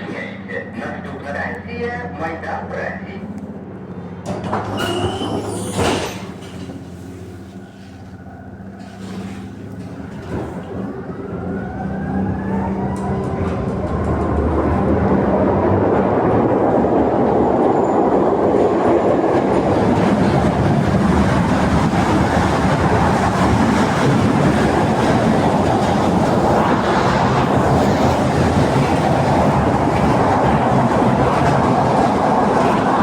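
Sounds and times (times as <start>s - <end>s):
tram wheels on rails: 0.0s - 33.0s.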